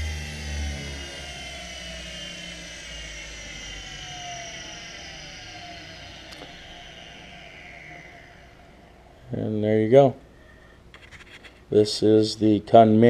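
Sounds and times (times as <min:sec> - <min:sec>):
low motor hum: 0:00.0 - 0:10.6
grinder motor whine winding down: 0:00.0 - 0:11.1.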